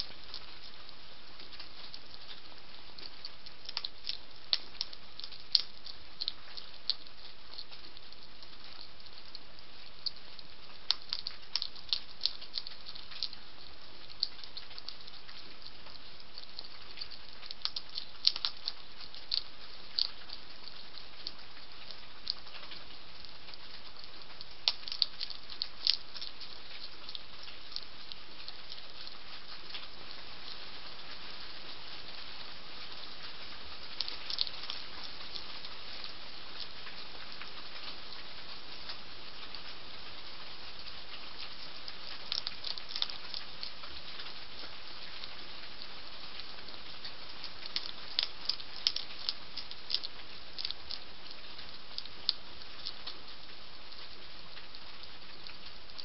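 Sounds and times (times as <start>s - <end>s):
hedgehog crunching dry food: 0.0s - 56.0s
steady hiss: 0.0s - 56.0s.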